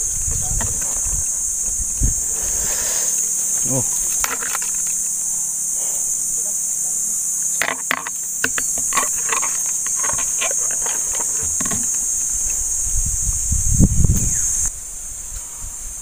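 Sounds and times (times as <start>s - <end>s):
leaves and twigs rustling: 0.0s - 14.7s
high-pitched insect chorus: 0.0s - 16.0s.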